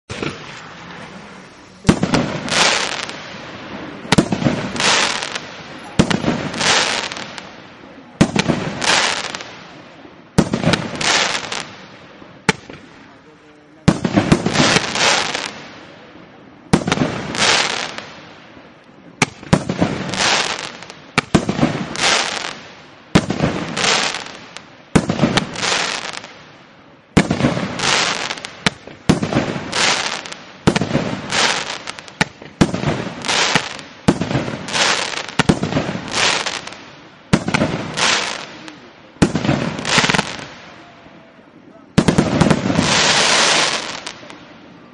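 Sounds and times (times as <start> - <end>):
firework sharp bangs: 0.1 - 13.2, 13.8 - 16.0, 16.7 - 18.6, 19.2 - 41.0, 41.9 - 44.5
firework stars crackling: 0.1 - 44.9.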